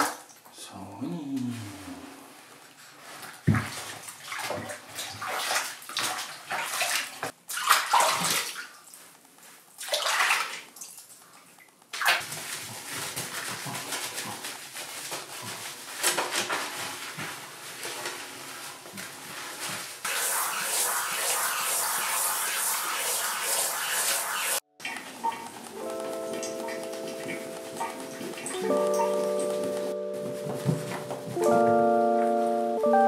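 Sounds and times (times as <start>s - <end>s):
water splashing in a bathtub: 0.0s - 0.5s, 1.3s - 29.5s.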